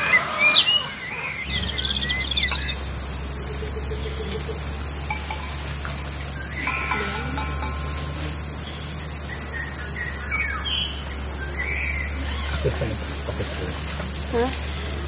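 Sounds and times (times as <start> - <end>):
bird trill: 0.0 - 13.0
bird chirps: 0.0 - 15.0
insects droning: 0.0 - 15.0
low steady hum: 1.3 - 15.0.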